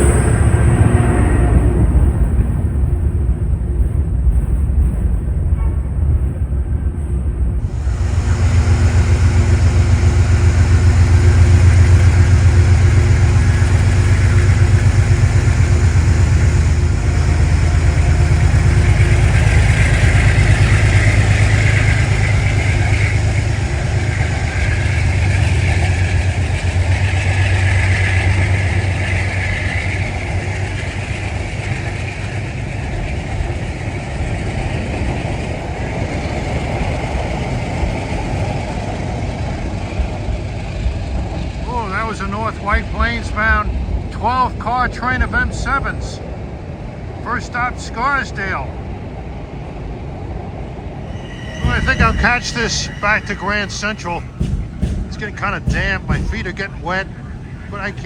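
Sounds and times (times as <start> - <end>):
commuter train running past: 0.0 - 58.0.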